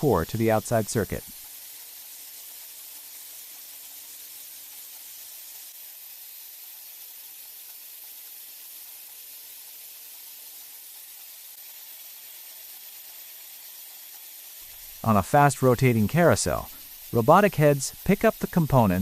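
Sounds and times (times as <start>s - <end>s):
factory machinery hiss: 0.0s - 19.0s.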